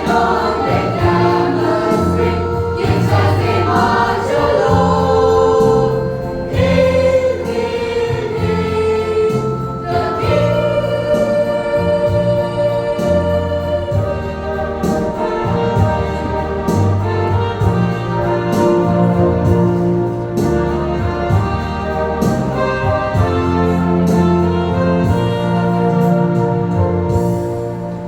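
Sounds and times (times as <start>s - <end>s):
sustained brass-like chords: 0.0s - 28.0s.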